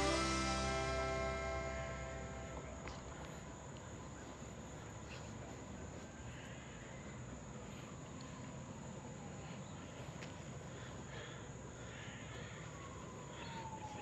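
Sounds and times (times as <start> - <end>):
background hiss: 0.0 - 14.0
high-pitched insect chorus: 0.0 - 14.0.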